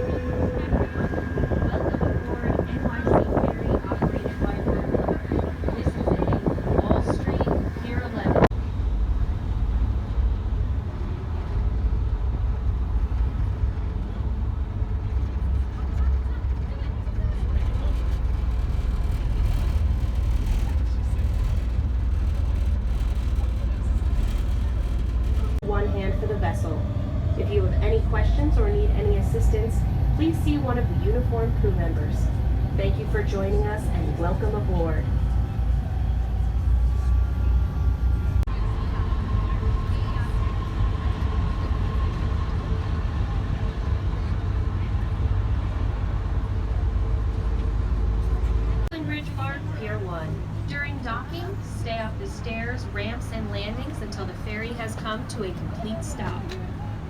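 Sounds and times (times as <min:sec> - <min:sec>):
ferry engines rumbling: 0:00.0 - 0:57.0.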